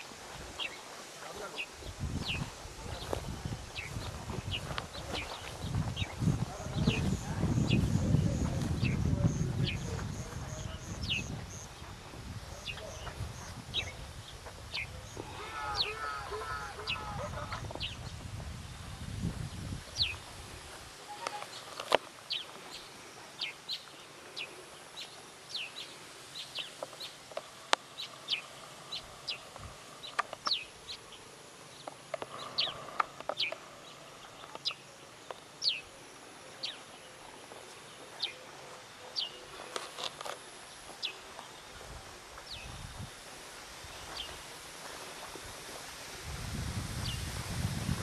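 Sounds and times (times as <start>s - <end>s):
birds chirping: 0.0s - 18.2s, 21.0s - 41.8s.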